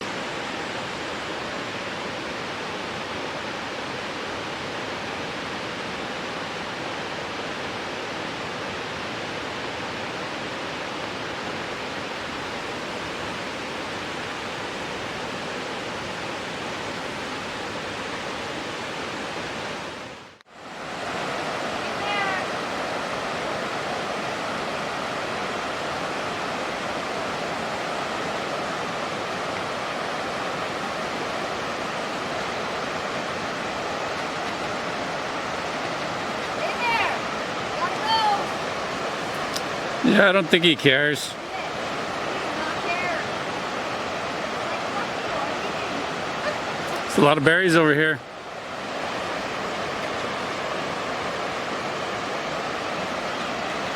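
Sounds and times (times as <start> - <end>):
stream rushing: 0.0 - 53.9.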